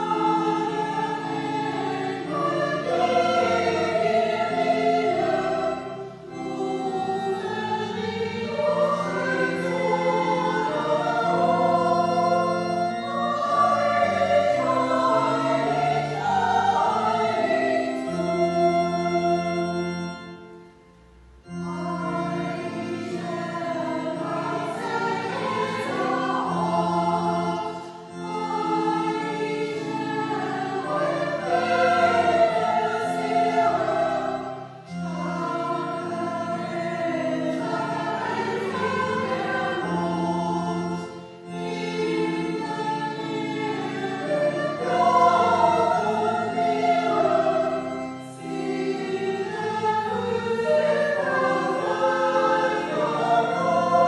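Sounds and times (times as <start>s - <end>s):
church choir singing: 0.0s - 54.0s
keyboard accompaniment: 0.0s - 54.0s.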